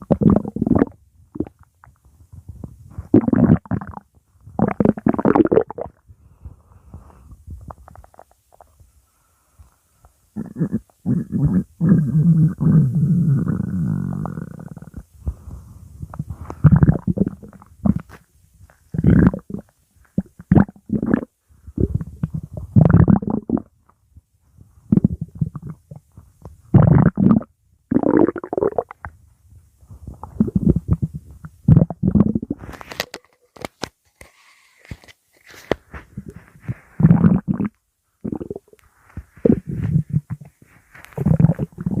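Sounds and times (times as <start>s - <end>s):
stomach growling: 0.0s - 6.1s, 7.6s - 8.9s, 10.3s - 23.9s, 24.8s - 29.3s, 30.0s - 33.7s, 36.0s - 42.0s.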